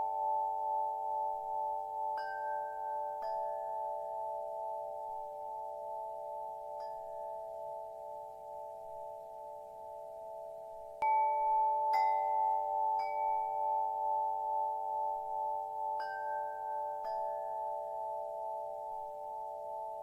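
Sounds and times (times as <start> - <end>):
metal wind chime ringing: 0.0 - 20.0.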